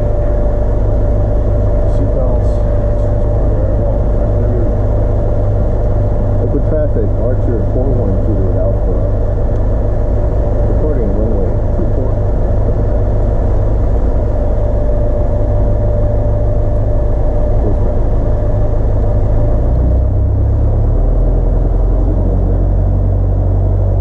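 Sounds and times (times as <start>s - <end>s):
aircraft engine droning: 0.0s - 24.0s.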